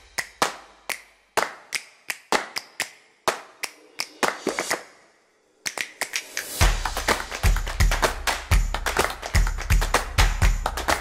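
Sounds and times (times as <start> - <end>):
sharp echoing claps: 0.0 - 5.0, 5.6 - 11.0.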